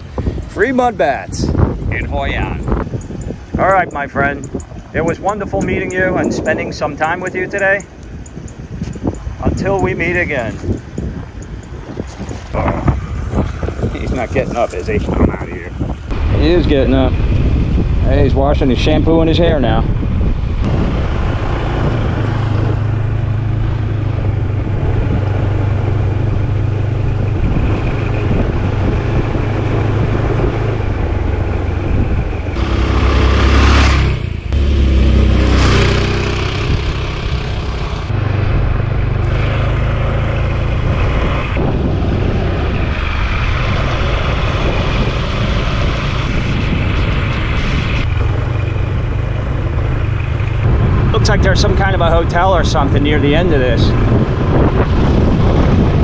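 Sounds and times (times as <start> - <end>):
wind and road noise: 0.0 - 56.0
scooter engine hum: 1.5 - 18.0, 19.9 - 53.3.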